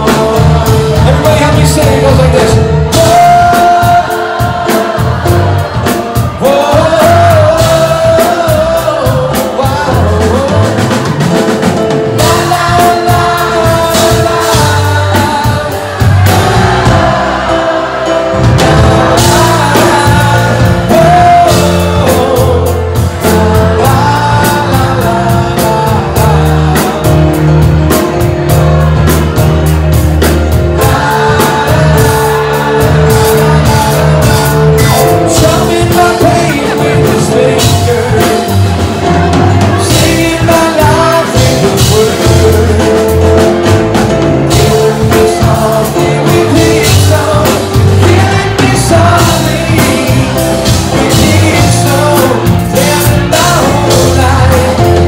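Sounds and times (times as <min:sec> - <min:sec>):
drum kit: 0:00.0 - 0:55.0
person singing lead vocal: 0:00.0 - 0:55.0
piano: 0:00.0 - 0:55.0.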